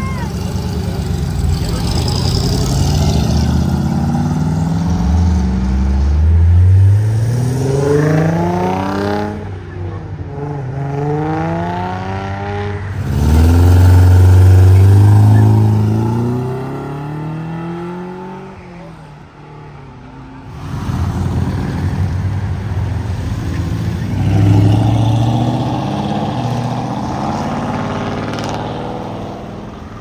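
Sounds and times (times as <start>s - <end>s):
car engine accelerating: 0.0s - 19.4s, 20.2s - 30.0s.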